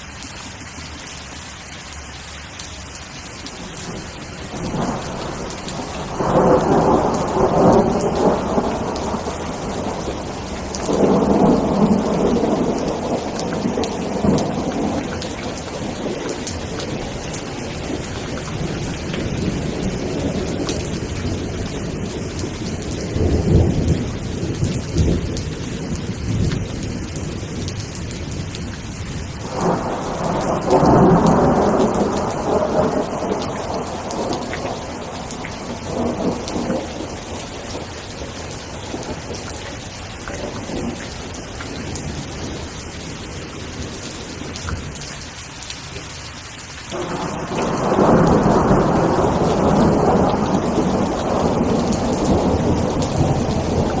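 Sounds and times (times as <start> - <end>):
steady rain falling: 0.0 - 54.0
rolling thunder: 3.6 - 45.0, 46.9 - 54.0.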